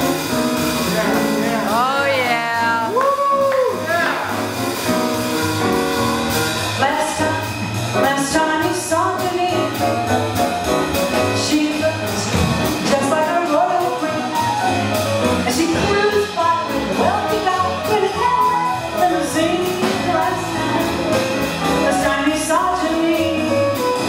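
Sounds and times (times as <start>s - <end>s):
drums: 0.0s - 24.0s
piano: 0.0s - 24.0s
upright double bass: 0.0s - 24.0s
woman singing jazz: 1.0s - 3.4s, 6.6s - 24.0s.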